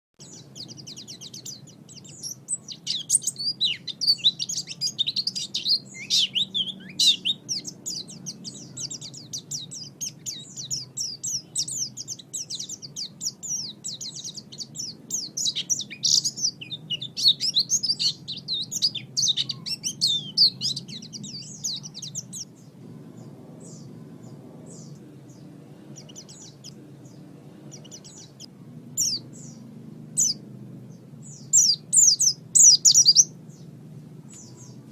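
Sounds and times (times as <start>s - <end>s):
bird twittering song: 0.2s - 34.9s
faint low hum: 0.2s - 34.9s.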